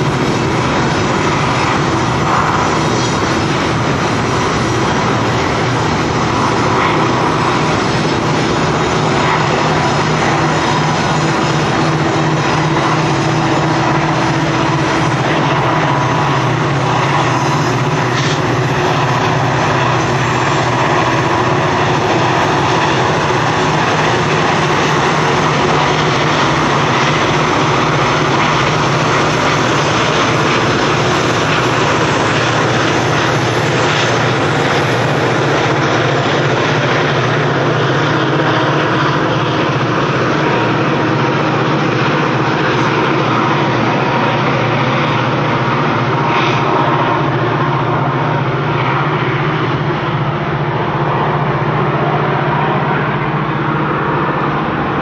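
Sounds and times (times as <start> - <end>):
diesel locomotive engines droning: 0.0 - 55.0
train rumbling on rails: 0.0 - 55.0.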